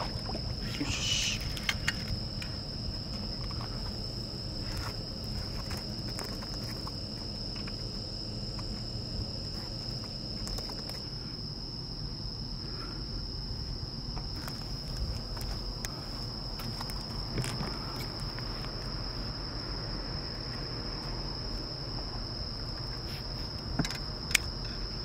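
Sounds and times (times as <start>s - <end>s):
high-pitched insect trill: 0.0s - 25.0s
low background rumble: 0.0s - 25.0s.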